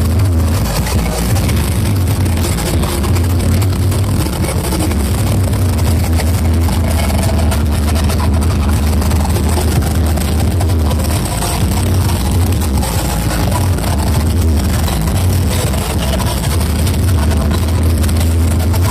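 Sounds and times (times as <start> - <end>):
deep bass drone: 0.0 - 18.9
loud distorted sound systems: 0.0 - 18.9.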